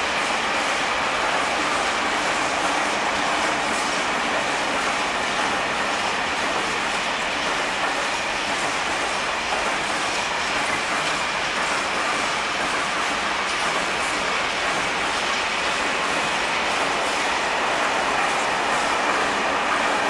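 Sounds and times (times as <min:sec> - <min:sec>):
steel wheels running on rails: 0:00.0 - 0:20.0.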